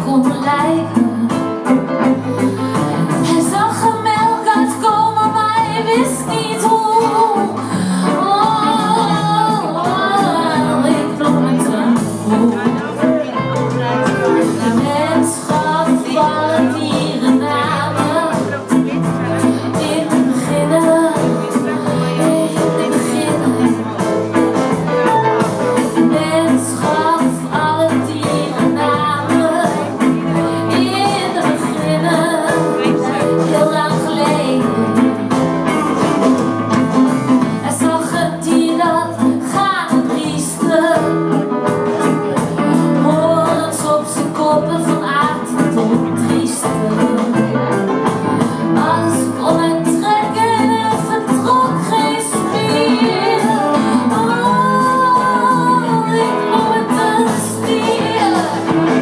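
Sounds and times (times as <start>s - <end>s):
woman singing: 0.0s - 13.6s, 14.4s - 24.2s, 25.0s - 59.0s
live band playing: 0.0s - 59.0s.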